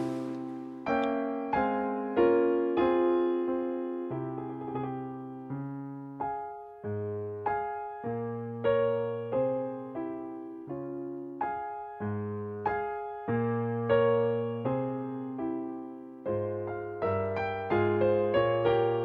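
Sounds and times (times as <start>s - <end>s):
gentle piano chords: 0.0s - 19.0s.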